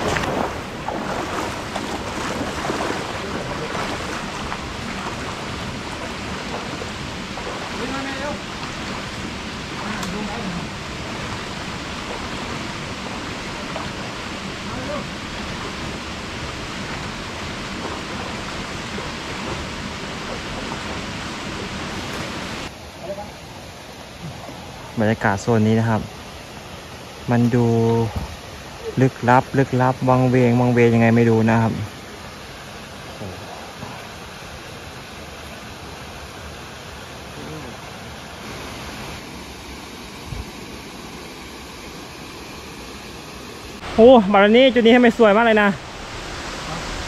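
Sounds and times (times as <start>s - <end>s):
waterfall rushing water: 0.0s - 31.1s, 31.9s - 47.0s.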